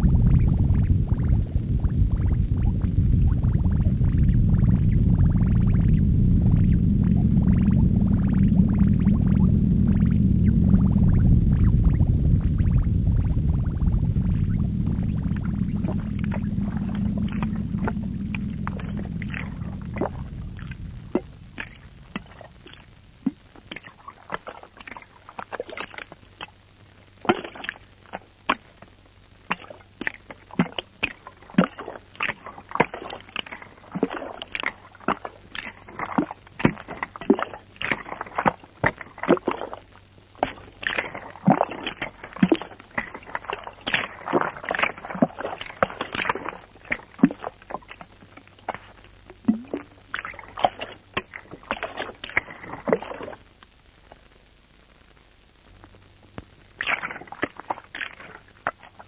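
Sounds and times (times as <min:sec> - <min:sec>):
noise music clicks and crackles: 0:00.0 - 0:59.0.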